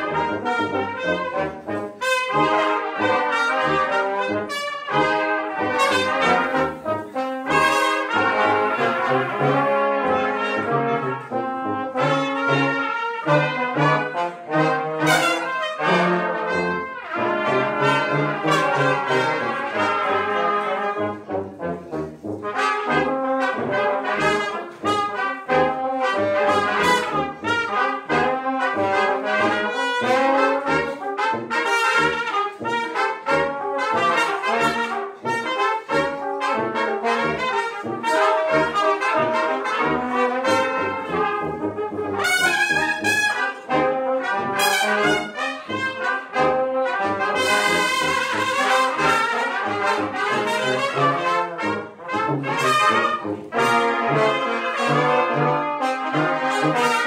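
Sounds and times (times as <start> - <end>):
brass ensemble playing: 0.0 - 57.0
tuba bass notes: 0.0 - 57.0.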